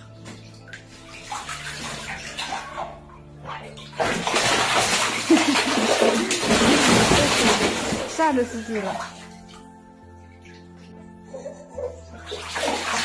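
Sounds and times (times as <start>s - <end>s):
goose splashing and flapping in water: 0.0s - 9.7s, 12.2s - 13.0s.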